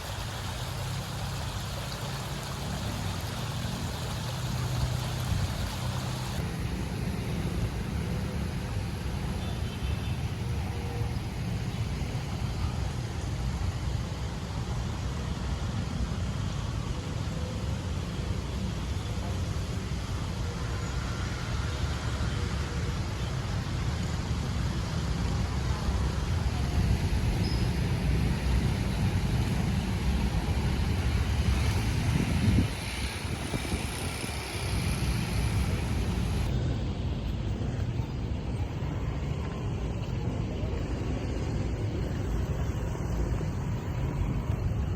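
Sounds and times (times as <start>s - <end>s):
road traffic rumble: 0.0s - 44.9s.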